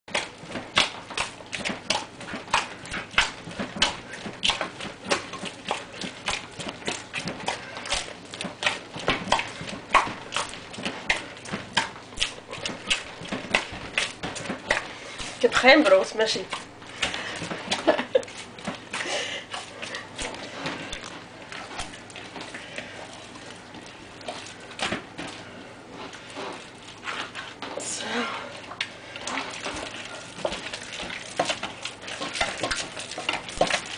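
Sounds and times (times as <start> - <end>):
hands kneading bread dough: 0.1 - 33.9.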